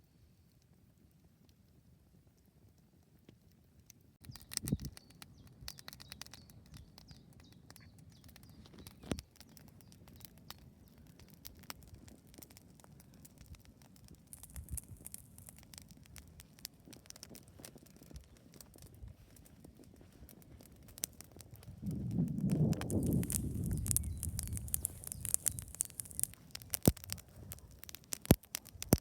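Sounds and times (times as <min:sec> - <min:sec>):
campfire crackling: 0:00.5 - 0:29.0.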